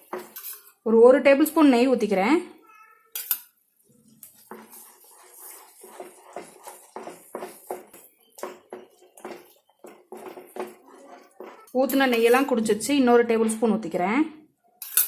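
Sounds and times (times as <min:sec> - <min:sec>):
spoon stirring and scraping pan: 0:00.0 - 0:02.2, 0:03.2 - 0:13.6.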